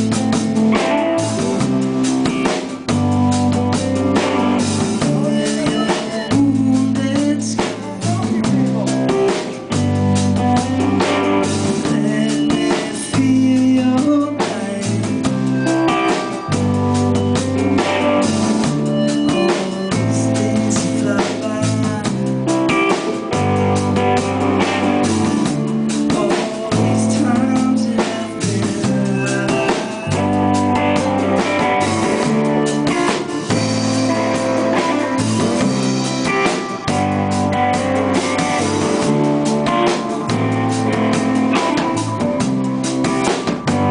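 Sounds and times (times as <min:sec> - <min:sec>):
live rock band playing: 0:00.0 - 0:43.9
repeating bass line: 0:00.0 - 0:43.9.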